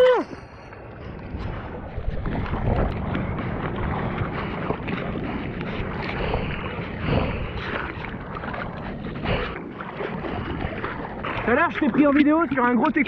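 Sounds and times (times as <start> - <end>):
water washing: 0.0 - 13.0
wind on microphone: 0.0 - 13.0
hands splashing through seawater: 1.3 - 13.0.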